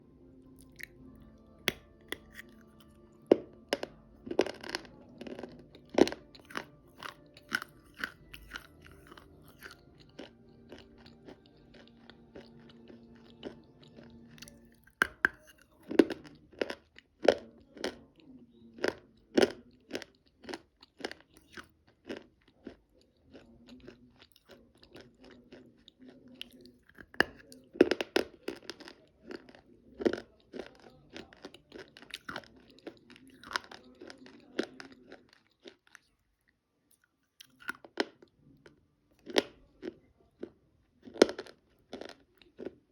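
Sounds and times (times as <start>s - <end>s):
faint low hum: 0.0s - 42.9s
chalk being chewed: 1.6s - 38.3s.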